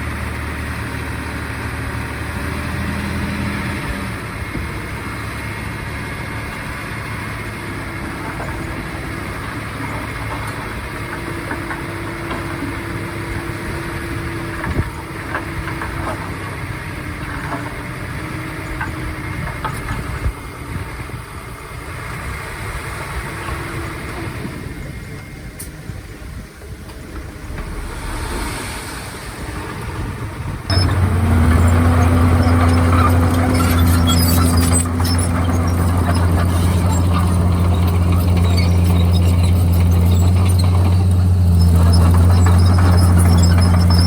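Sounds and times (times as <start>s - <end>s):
bulldozer diesel engine running: 0.0s - 44.0s.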